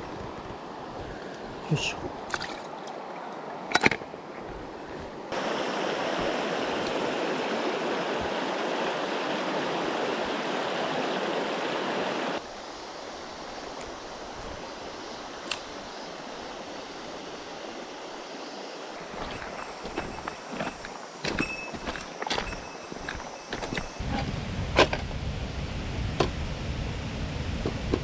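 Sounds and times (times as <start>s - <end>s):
mountain stream rushing: 0.0s - 24.1s.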